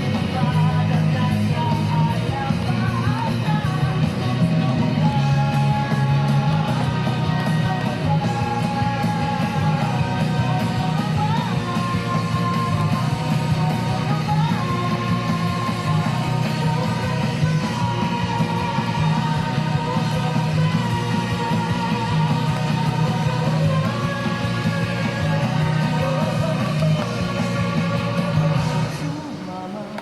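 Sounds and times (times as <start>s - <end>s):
guitar: 0.0s - 30.0s
person singing: 0.0s - 30.0s
rock music: 0.0s - 30.0s.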